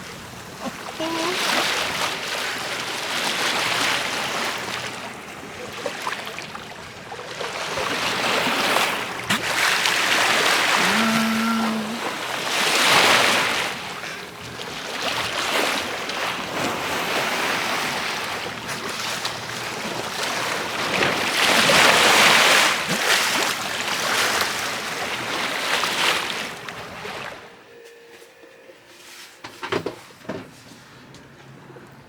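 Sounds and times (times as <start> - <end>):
sea water splashing: 0.0 - 27.4.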